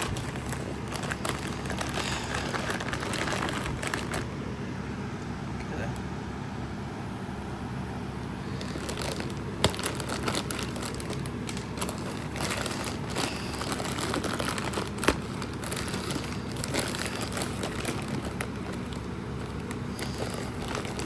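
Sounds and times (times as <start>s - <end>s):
plastic packaging crinkling: 0.0s - 4.4s, 8.5s - 21.0s.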